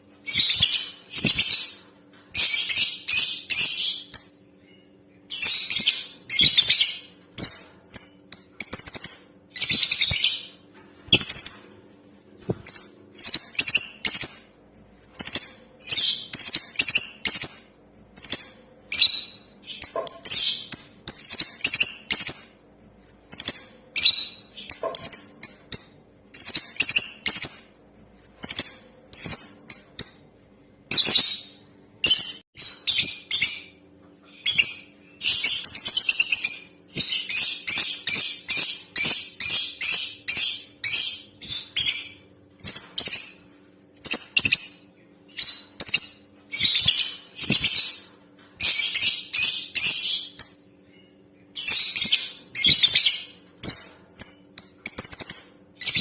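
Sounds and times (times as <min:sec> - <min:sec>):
lovebird high-pitched chirps: 0:00.0 - 0:11.9, 0:12.5 - 0:27.8, 0:28.4 - 0:56.0.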